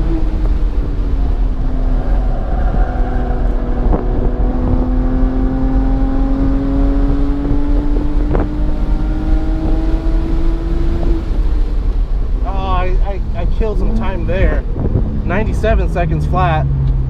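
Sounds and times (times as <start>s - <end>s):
car engine accelerating: 0.0s - 17.0s
road rumble: 0.0s - 17.0s
wind noise: 0.0s - 17.0s.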